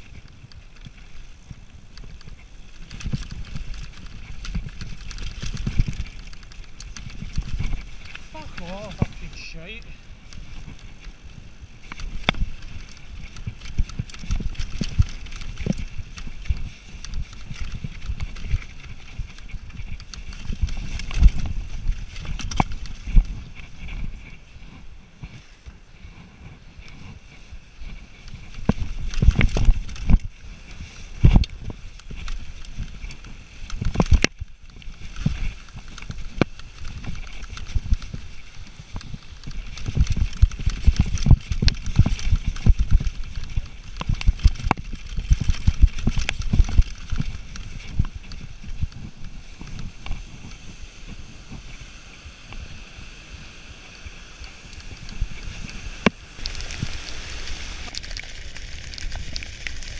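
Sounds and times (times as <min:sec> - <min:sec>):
bike rattling and clattering: 0:00.0 - 0:52.8, 0:54.3 - 0:59.9
rumble of tyres and wind: 0:00.0 - 0:59.9.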